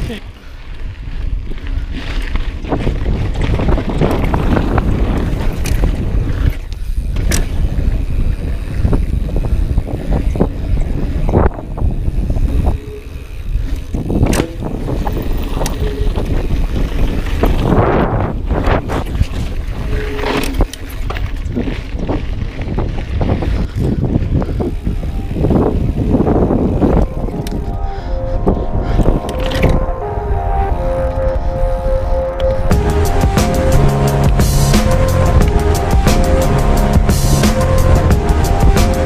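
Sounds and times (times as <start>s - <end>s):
bike rattling: 0.0s - 30.2s, 30.8s - 39.0s
wind buffeting microphone: 0.0s - 39.0s.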